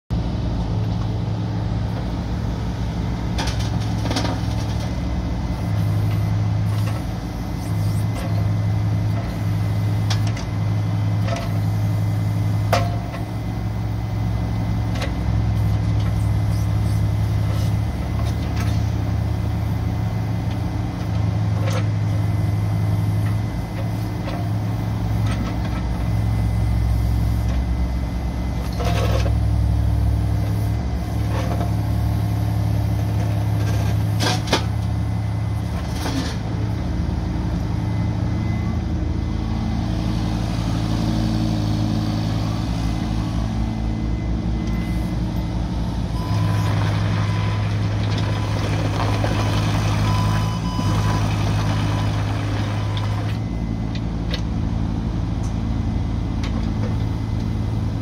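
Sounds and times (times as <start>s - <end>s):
excavator diesel engine running: 0.1s - 58.0s.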